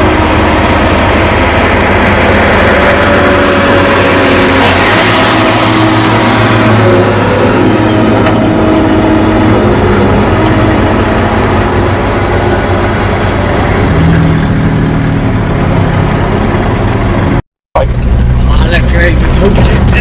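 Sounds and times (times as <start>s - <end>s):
heavy vehicle engines running: 0.0s - 20.0s
road noise: 0.0s - 20.0s
truck passing close by: 0.0s - 20.0s.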